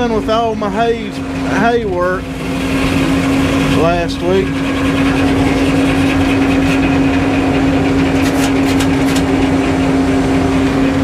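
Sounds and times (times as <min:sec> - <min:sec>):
sawmill engine droning: 0:00.0 - 0:11.0.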